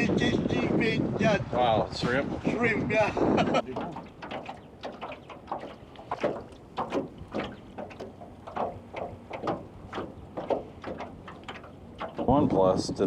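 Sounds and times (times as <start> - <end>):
water lapping against a boat: 0.0 - 13.0.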